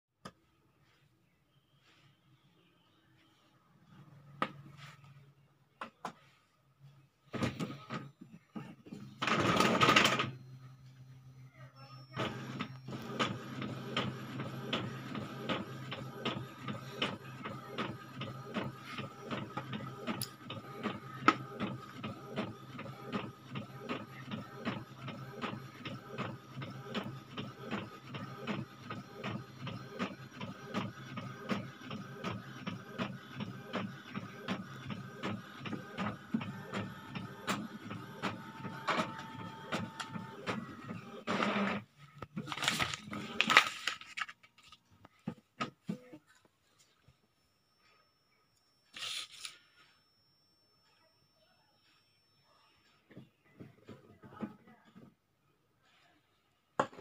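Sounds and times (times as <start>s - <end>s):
photocopier humming: 7.2s - 54.5s.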